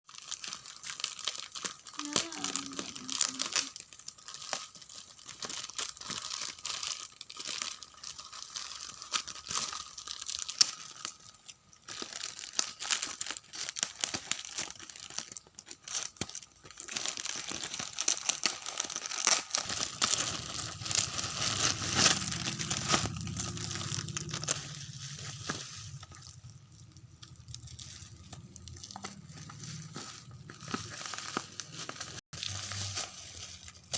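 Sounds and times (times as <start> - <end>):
packaging crinkling and tearing: 0.1 - 33.9.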